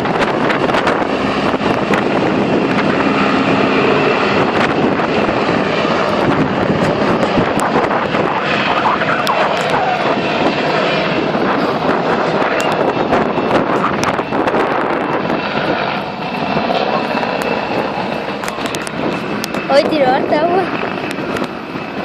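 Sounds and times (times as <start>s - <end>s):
helicopter rotor and engine: 0.0s - 22.0s
wind buffeting microphone: 0.0s - 22.0s.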